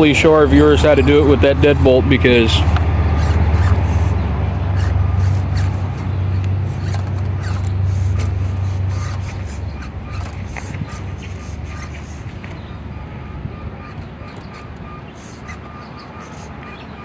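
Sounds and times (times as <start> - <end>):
toy crawler scraping and clicking: 0.0 - 12.7, 13.8 - 17.0
low hum: 0.0 - 17.0.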